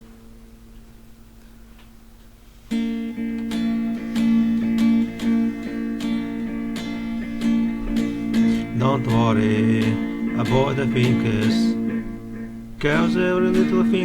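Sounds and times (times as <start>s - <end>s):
faint hum: 0.0s - 14.0s
acoustic guitar strumming: 2.6s - 14.0s.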